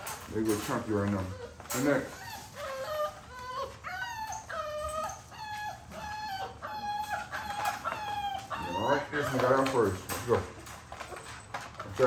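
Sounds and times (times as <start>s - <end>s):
puppies whining: 0.0s - 12.0s.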